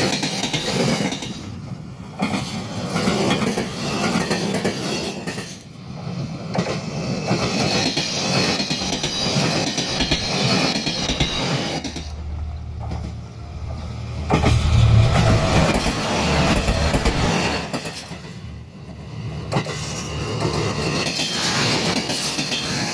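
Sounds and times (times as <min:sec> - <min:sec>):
train passing with rumble: 0:00.0 - 0:22.9.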